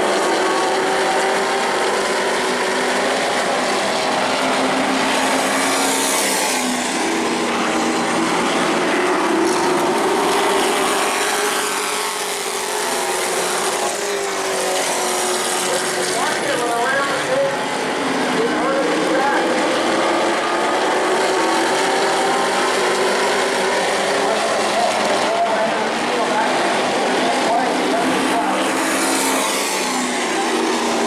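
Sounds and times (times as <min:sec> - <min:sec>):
race truck engines: 0:00.0 - 0:31.0.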